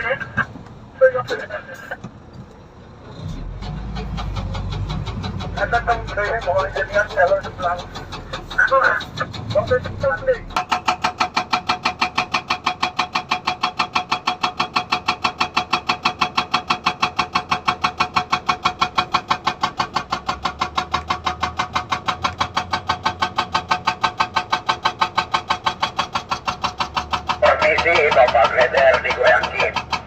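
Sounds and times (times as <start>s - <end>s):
excavator engine running: 0.0s - 30.0s
hydraulic breaker hammering stone: 5.1s - 30.0s.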